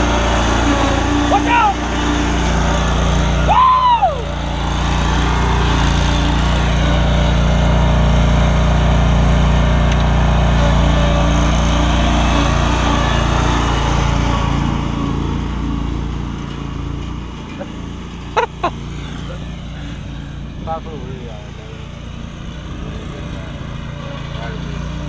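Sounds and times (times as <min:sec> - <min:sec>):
mower engine running: 0:00.0 - 0:25.0.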